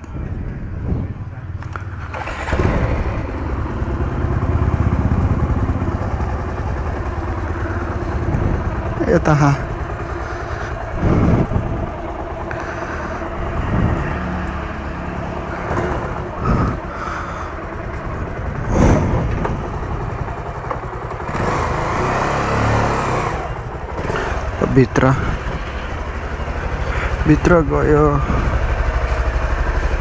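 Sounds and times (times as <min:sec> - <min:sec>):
motorcycle engine rumbling: 0:00.0 - 0:30.0.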